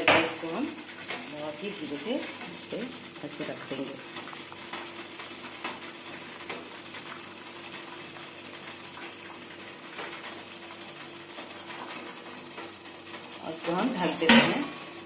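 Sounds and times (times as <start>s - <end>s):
water boiling: 0.0s - 15.0s.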